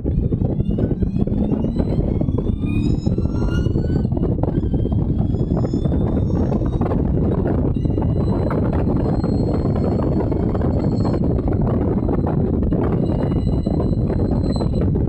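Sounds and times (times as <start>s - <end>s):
car engine accelerating hard: 0.0s - 15.0s
heavy low rumble: 0.0s - 15.0s.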